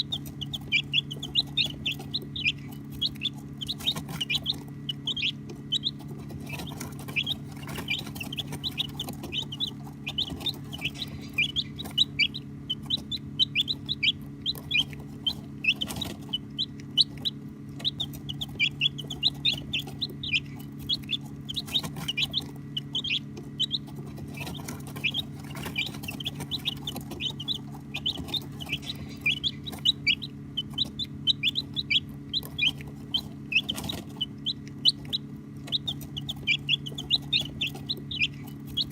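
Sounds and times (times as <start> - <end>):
baby chicks peeping: 0.0 - 38.9
steady low hum: 0.0 - 38.9.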